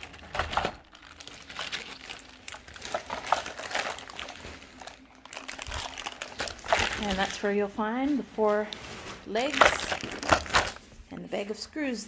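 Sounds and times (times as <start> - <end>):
plastic wrapping crinkling: 0.0 - 11.6.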